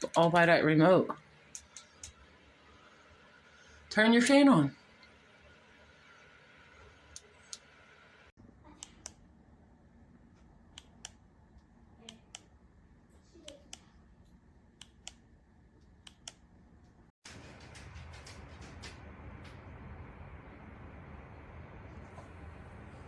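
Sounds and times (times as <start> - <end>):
ceiling fan humming: 0.1 - 23.0.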